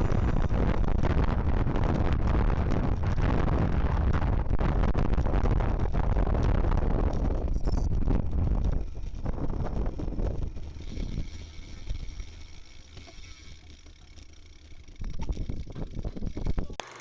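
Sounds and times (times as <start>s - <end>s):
wind buffeting: 0.0s - 13.0s, 14.6s - 16.8s
road and engine rumble: 0.0s - 17.0s.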